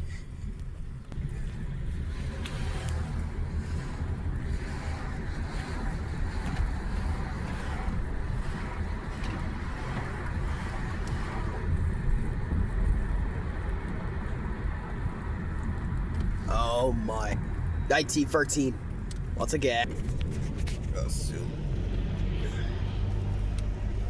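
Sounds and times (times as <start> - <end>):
road vehicle rumbling: 0.0 - 24.0.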